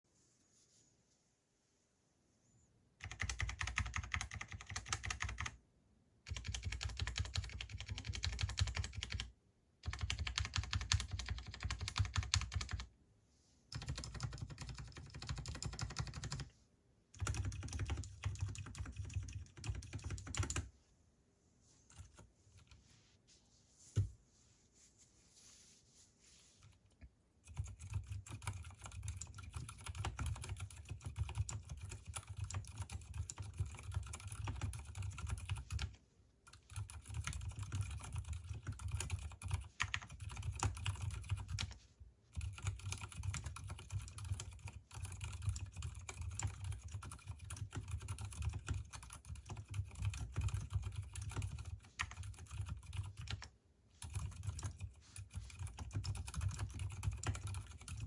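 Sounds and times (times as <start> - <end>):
muted keyboard typing: 3.0 - 5.6, 6.2 - 12.9, 13.7 - 16.5, 17.1 - 20.7, 27.0 - 58.0.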